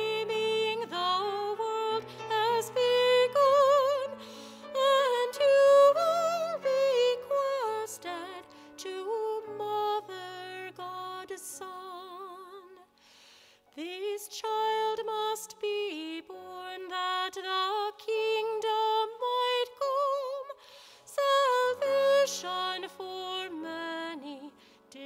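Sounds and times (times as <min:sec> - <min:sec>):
woman singing a hymn: 0:00.0 - 0:12.9, 0:13.7 - 0:25.0
grand piano: 0:00.0 - 0:13.0, 0:13.7 - 0:25.0.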